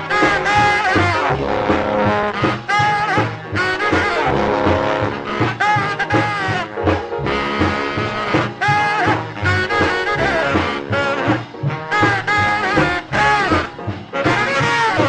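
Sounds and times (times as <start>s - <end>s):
jump blues saxophone and brass: 0.0s - 15.0s.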